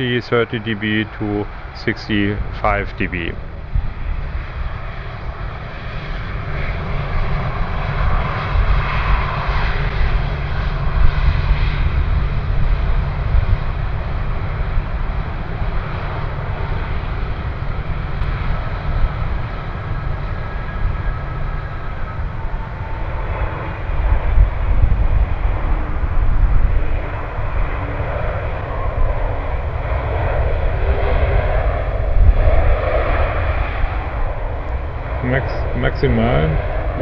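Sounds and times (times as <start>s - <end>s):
aircraft engine rumble: 0.0s - 37.0s.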